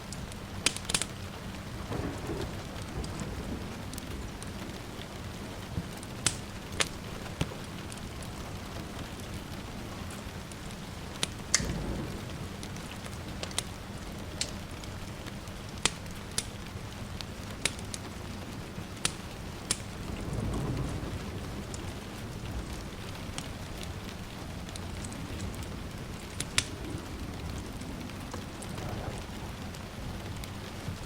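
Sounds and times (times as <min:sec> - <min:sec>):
steady rain: 0:00.0 - 0:31.0
wood fire crackling and popping: 0:00.0 - 0:31.0
distant thunder rumble: 0:00.2 - 0:31.0.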